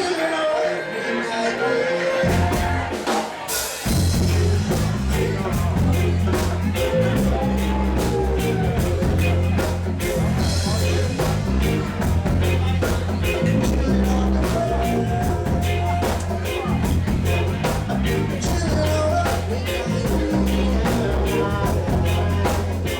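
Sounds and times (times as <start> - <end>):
reggae band playing: 0.0 - 22.9
heavy bass line: 2.2 - 3.0, 3.8 - 22.9
drums beating: 2.2 - 22.9.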